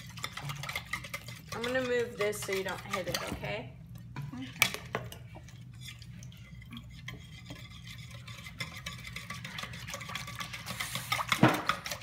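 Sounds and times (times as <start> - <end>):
utensil stirring in plastic pitcher: 0.0 - 3.7, 4.4 - 12.0.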